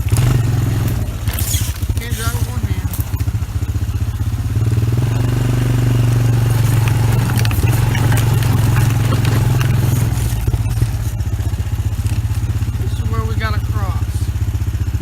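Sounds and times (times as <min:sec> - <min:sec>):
atv engine under load: 0:00.0 - 0:15.0.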